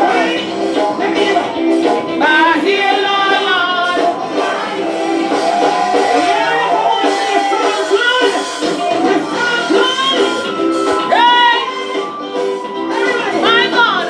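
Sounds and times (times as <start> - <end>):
song with singing voice: 0.0 - 14.0.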